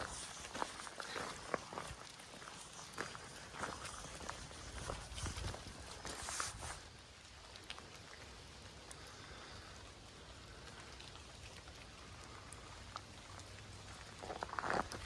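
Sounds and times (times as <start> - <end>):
faint steady rain: 0.0 - 15.0
raindrops ticking: 0.0 - 15.0
rustle: 0.0 - 15.0.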